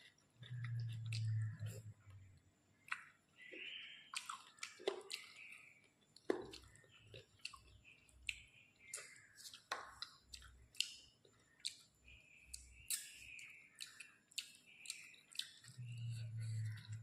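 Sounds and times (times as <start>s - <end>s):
chewing food with mouth smacks: 0.0s - 17.0s.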